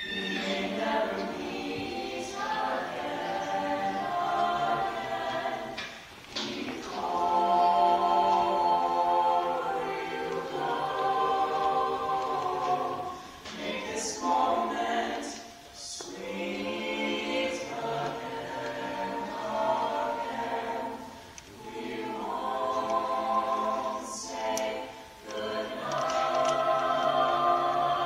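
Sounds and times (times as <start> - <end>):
choir singing unaccompanied: 0.0 - 28.0.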